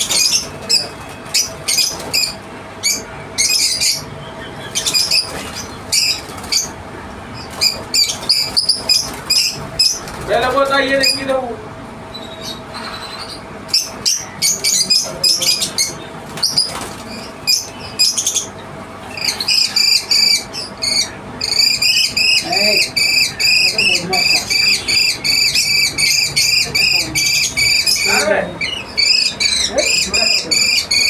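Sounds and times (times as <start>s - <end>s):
parrots chirping shrilly: 0.0s - 10.2s, 12.1s - 31.0s.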